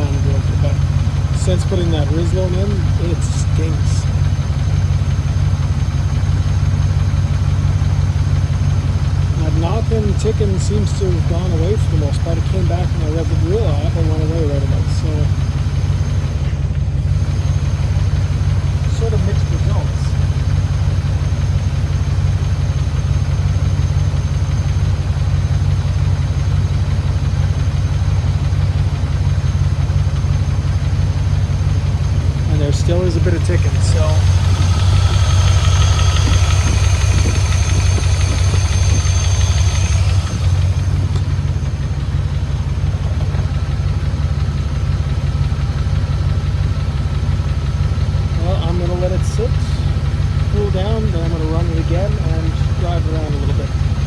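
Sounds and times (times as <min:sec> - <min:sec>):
car engine idling: 0:00.0 - 0:54.0
engine ticking: 0:00.0 - 0:54.0.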